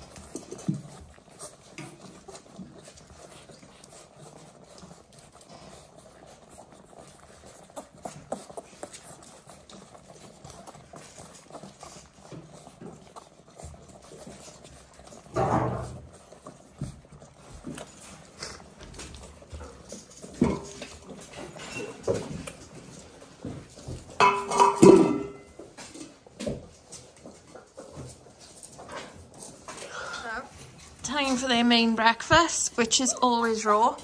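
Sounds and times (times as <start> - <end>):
puppies suckling: 0.0 - 34.0.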